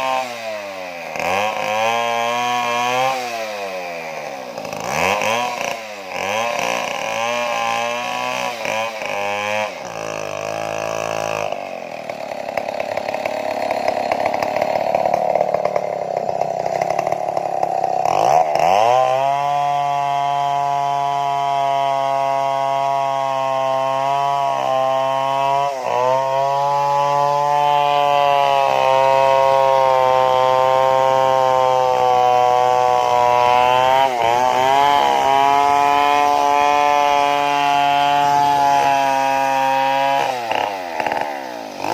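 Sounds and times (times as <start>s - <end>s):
chainsaw cutting tree trunk: 0.0s - 41.9s.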